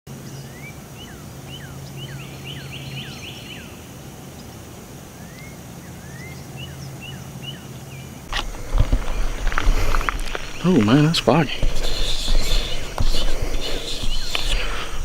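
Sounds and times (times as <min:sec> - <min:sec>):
steady low hum: 0:00.1 - 0:15.0
birds whistling: 0:00.2 - 0:15.0.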